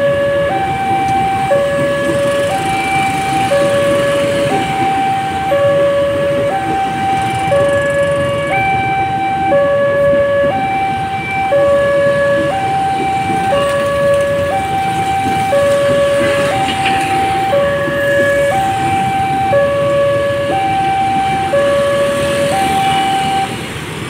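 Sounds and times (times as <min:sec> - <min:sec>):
train rumbling past: 0:00.0 - 0:24.0
two-tone crossing alarm: 0:00.0 - 0:24.0.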